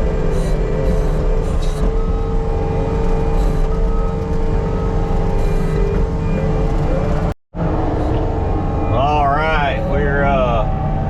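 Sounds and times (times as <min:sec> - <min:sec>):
diesel engine whining under load: 0:00.0 - 0:11.0.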